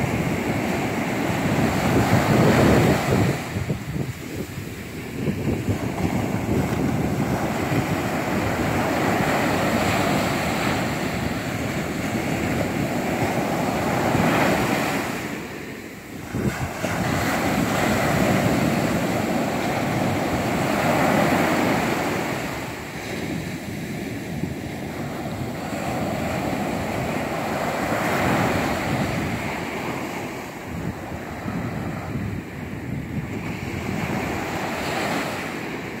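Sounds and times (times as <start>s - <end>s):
waves breaking on a beach: 0.0s - 36.0s
wind buffeting microphone: 0.0s - 36.0s.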